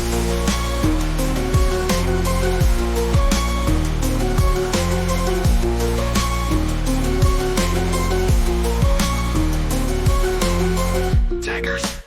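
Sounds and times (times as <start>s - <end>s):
sustained bass and melody: 0.0s - 11.6s.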